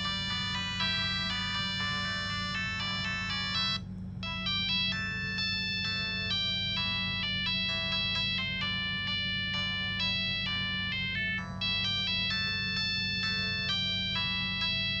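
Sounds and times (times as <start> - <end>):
polyphonic ringtone melody: 0.0 - 15.0
steady low hum: 0.0 - 15.0.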